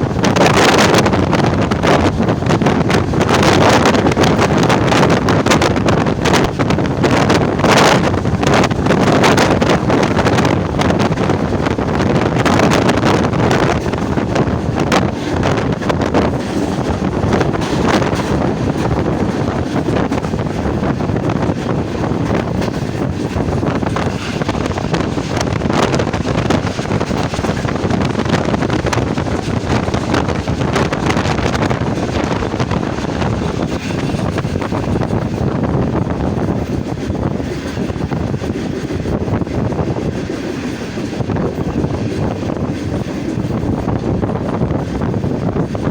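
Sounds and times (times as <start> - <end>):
train clicks and clatter: 0.0 - 45.9
train wheels rumbling on rails: 0.0 - 45.9
wind buffeting microphone: 0.0 - 45.9.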